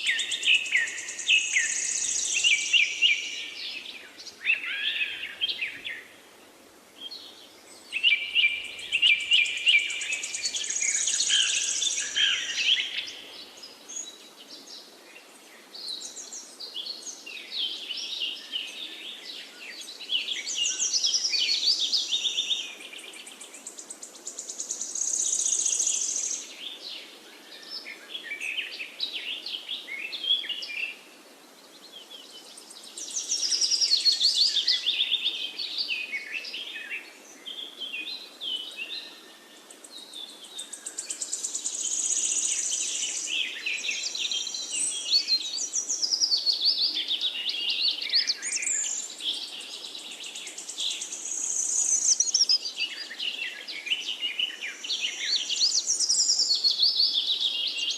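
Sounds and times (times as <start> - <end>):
songbirds chirping and trilling: 0.0 - 57.9.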